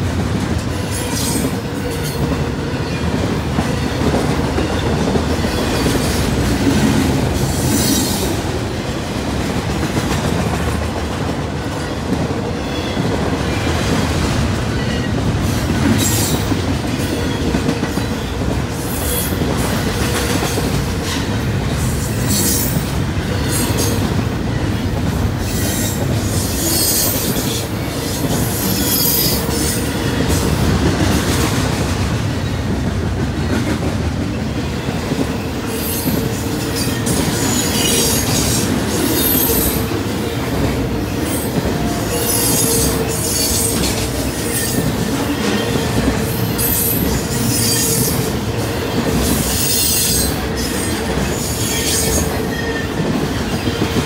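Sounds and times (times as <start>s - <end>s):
train wheels rumbling and clattering: 0.0s - 54.0s.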